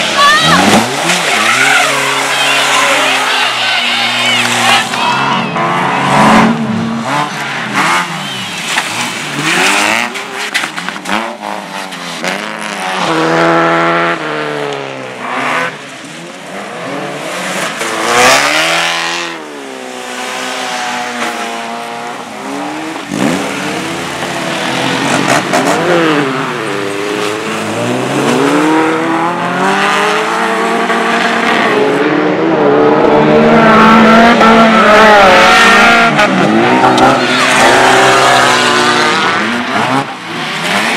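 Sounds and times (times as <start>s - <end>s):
racing car engines revving: 0.0s - 40.9s.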